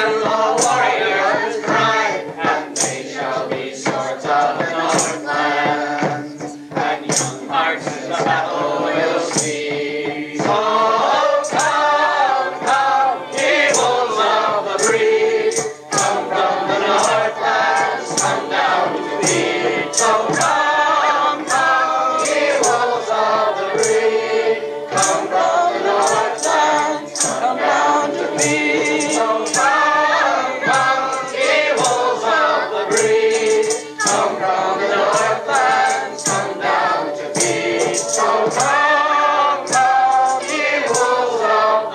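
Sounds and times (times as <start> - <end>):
choir singing folk song: 0.0 - 41.9
sharp percussive strikes: 0.0 - 41.9.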